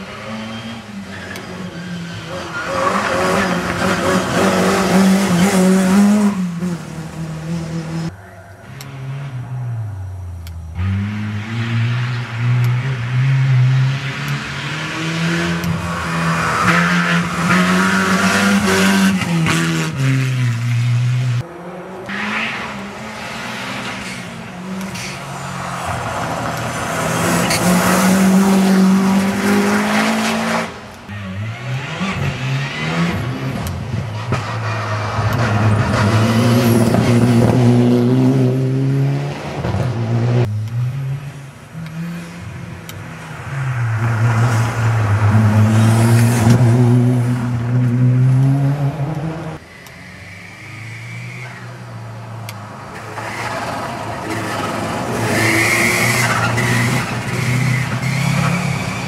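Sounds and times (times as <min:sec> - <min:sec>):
rally car engines revving past: 0:00.0 - 0:59.0.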